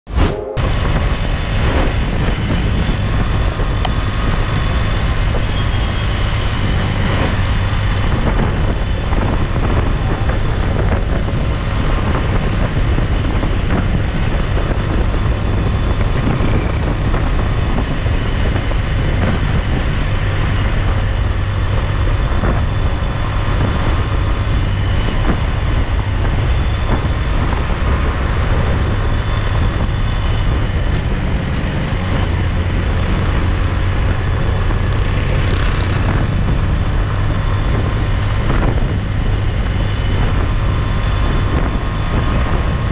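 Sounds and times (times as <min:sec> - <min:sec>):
wind buffeting microphone: 0:00.3 - 0:42.9.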